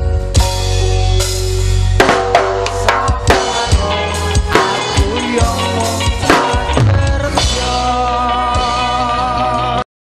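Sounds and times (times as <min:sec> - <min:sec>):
drum kit hits and fills: 0:00.0 - 0:09.3
live band music: 0:00.0 - 0:09.8.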